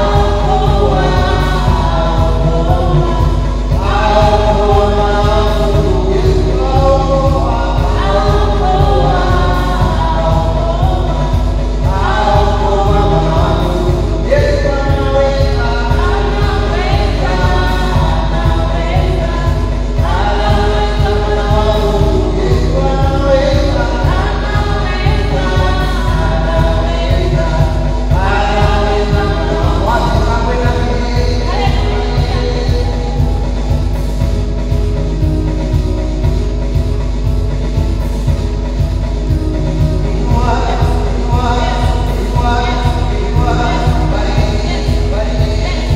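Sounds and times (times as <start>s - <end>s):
group singing gospel song: 0.0s - 45.9s
instrumental backing with low beat: 0.0s - 45.9s.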